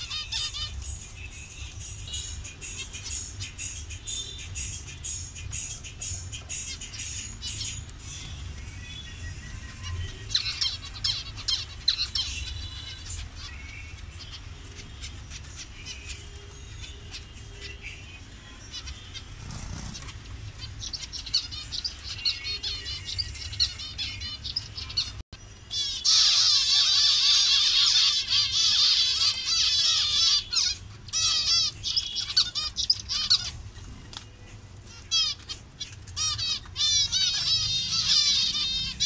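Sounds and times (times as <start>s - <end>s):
finches chirping: 0.0s - 39.0s.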